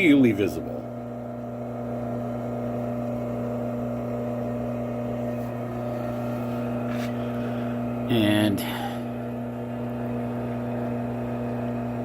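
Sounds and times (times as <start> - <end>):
drill press motor hum: 0.0 - 12.0.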